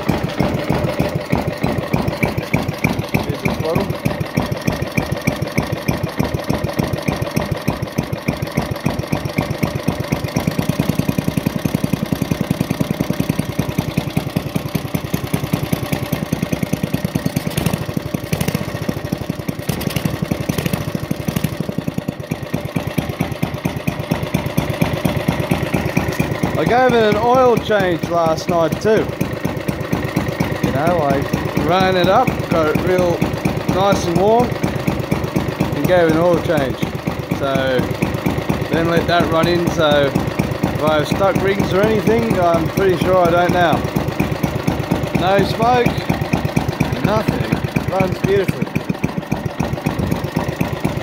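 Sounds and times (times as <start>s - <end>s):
small petrol engine idling: 0.0s - 51.0s.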